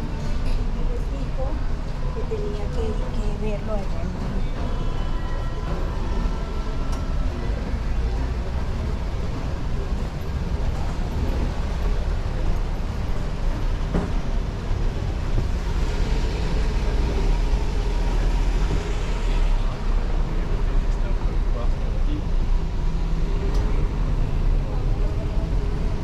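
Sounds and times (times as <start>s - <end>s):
motor vehicles rumbling: 0.0s - 26.0s
street noise: 0.0s - 26.0s.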